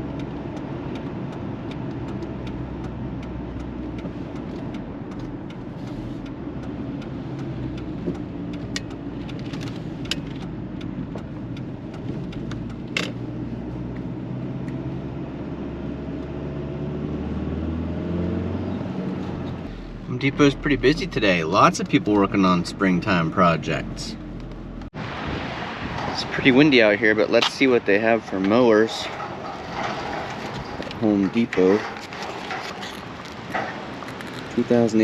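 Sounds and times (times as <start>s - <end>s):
road noise: 0.0s - 35.0s
truck engine hum: 0.0s - 35.0s.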